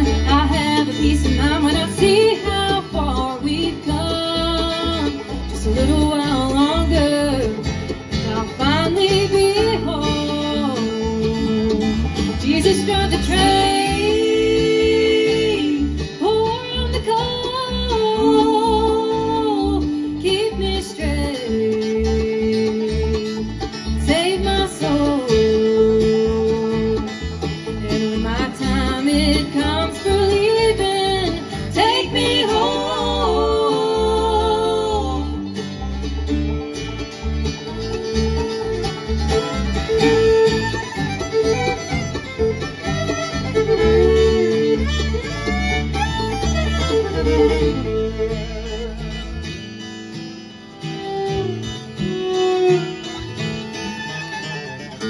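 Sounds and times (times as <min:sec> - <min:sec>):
acoustic guitar: 0:00.0 - 0:55.0
banjo: 0:00.0 - 0:55.0
bass: 0:00.0 - 0:55.0
fiddle: 0:00.0 - 0:55.0
mandolin: 0:00.0 - 0:55.0.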